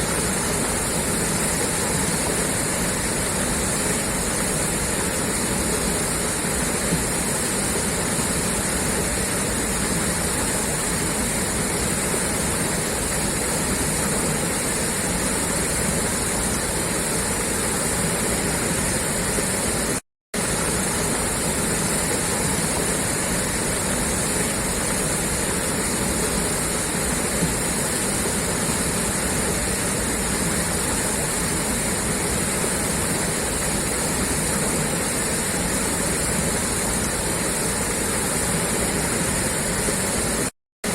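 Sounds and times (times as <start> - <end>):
water gushing from a pipe: 0.0 - 40.9.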